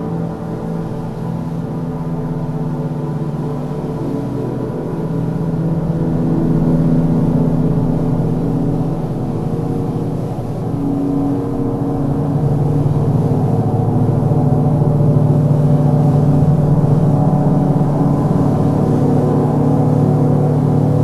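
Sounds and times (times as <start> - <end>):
ambient drone music with gong-like ring: 0.0 - 21.0.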